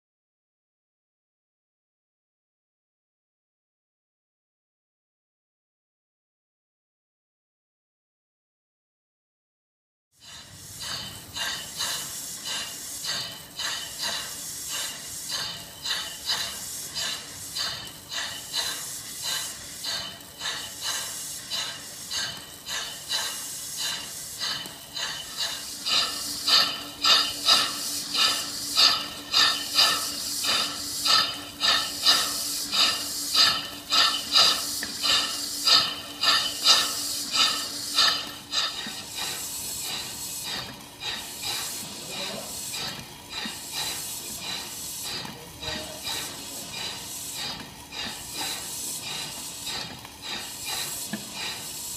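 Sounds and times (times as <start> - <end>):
steam pump exhaust puffing: 10.2 - 51.9.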